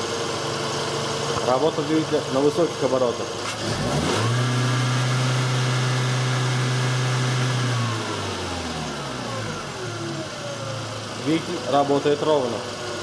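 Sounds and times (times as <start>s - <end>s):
car engine revving: 2.1s - 13.0s.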